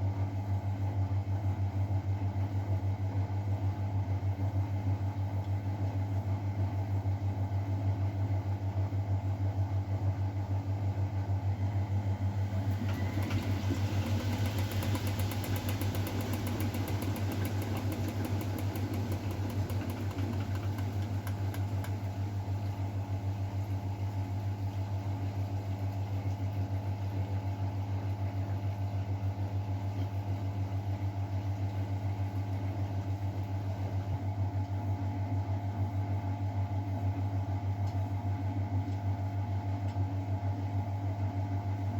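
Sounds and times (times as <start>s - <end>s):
washing machine humming: 0.0s - 41.9s.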